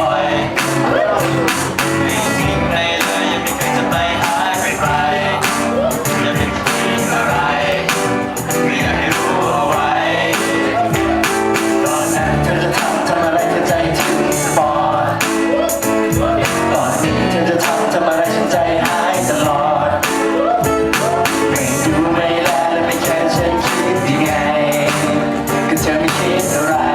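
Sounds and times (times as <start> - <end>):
person singing: 0.0 - 26.9
steady drum beat: 0.0 - 26.9.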